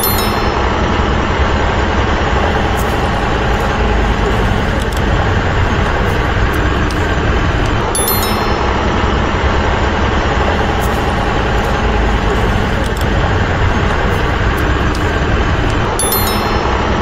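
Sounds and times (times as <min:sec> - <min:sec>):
truck engine rumbling: 0:02.0 - 0:08.9, 0:09.9 - 0:16.8.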